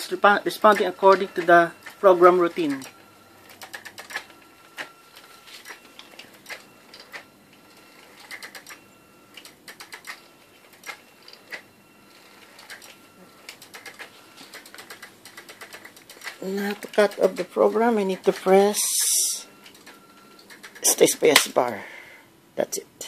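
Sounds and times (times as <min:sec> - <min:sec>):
faint motor whine: 0:00.0 - 0:23.0.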